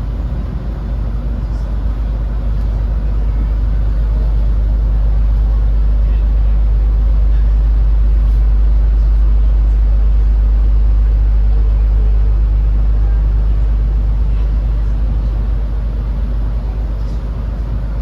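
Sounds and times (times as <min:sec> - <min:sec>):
deep engine rumble: 0:00.0 - 0:18.0.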